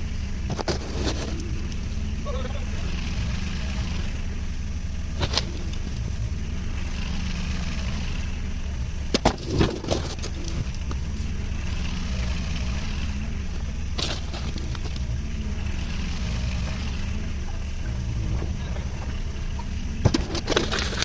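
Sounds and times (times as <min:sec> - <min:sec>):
engine low rumble: 0:00.0 - 0:21.0.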